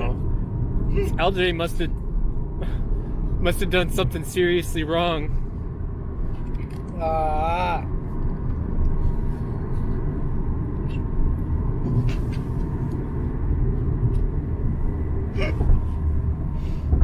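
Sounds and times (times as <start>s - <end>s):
car rumble inside cabin: 0.0s - 17.0s.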